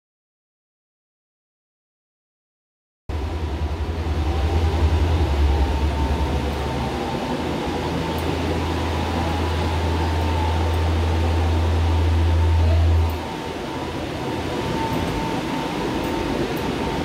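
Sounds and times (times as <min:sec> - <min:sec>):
faint whine: 0:03.1 - 0:17.0
low rumbling hum of fans: 0:03.1 - 0:17.0.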